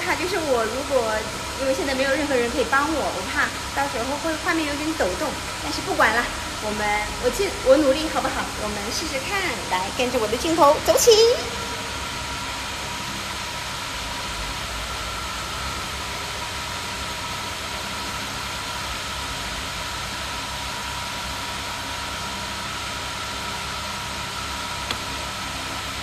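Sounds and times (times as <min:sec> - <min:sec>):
factory machinery hum: 0:00.0 - 0:26.0
faint steady whine: 0:00.0 - 0:26.0.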